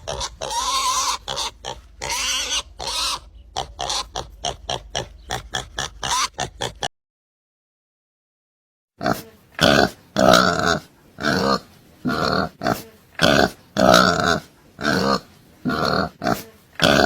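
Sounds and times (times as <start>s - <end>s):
pig grunting: 0.0s - 6.9s, 9.0s - 17.0s
pig squealing: 0.0s - 6.9s, 9.0s - 17.0s.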